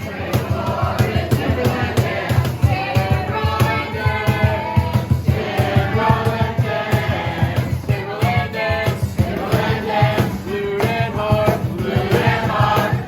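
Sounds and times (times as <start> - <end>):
accompaniment with steady beat: 0.0 - 13.0
group singing a praise song: 0.0 - 13.0.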